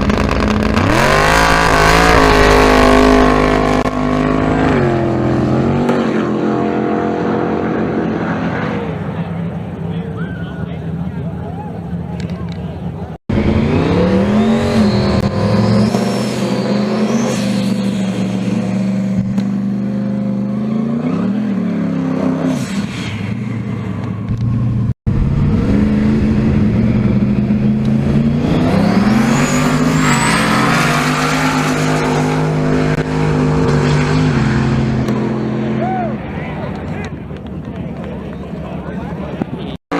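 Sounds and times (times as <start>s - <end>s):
drag race car engines at full throttle: 0.0s - 39.9s.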